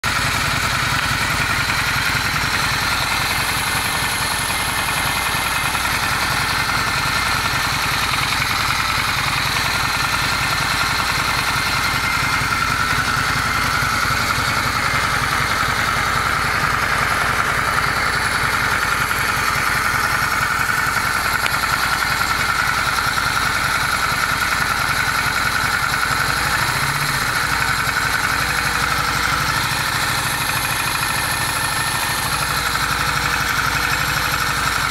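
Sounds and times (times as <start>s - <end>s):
motorcycle engine idling with knock: 0.0s - 34.9s.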